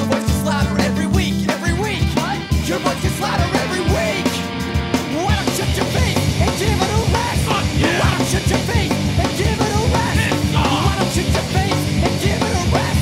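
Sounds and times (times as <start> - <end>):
fast driving drum kit: 0.0 - 13.0
punk rock band playing: 0.0 - 13.0.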